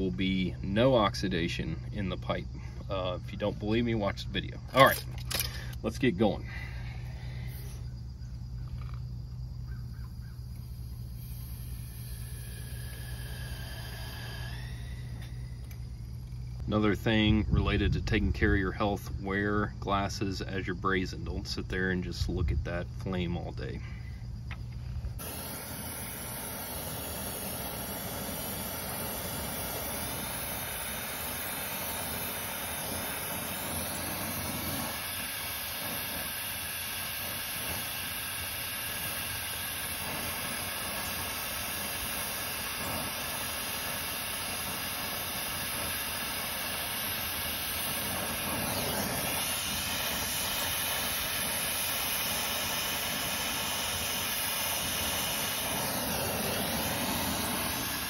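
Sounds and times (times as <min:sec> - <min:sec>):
brazing torch flame hissing: 0:00.0 - 0:16.8, 0:23.0 - 0:58.0.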